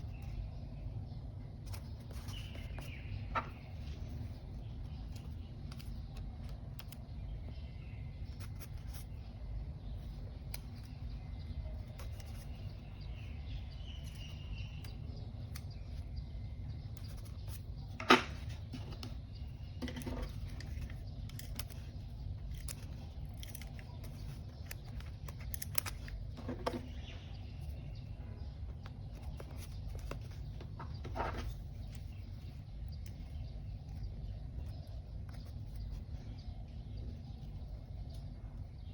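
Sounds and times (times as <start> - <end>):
steady low hum: 0.0 - 38.9
paper handling clicks and taps: 1.6 - 9.3, 10.0 - 27.8, 28.6 - 36.2.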